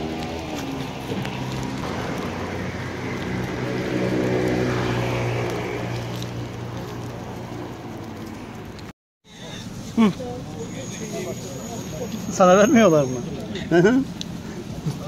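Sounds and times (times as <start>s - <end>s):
engine running low hum: 0.0s - 12.3s.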